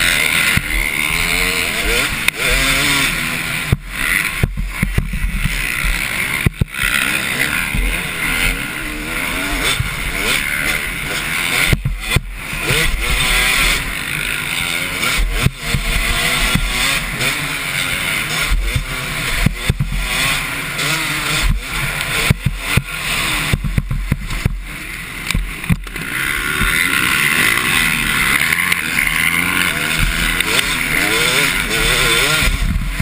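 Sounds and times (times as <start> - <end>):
motocross bikes engines revving: 0.0 - 33.0.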